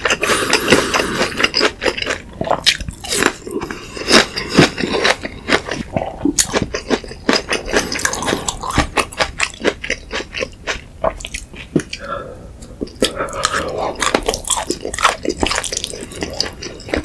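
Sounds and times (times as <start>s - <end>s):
chewing with wet mouth smacks: 0.0s - 12.0s, 12.6s - 17.0s.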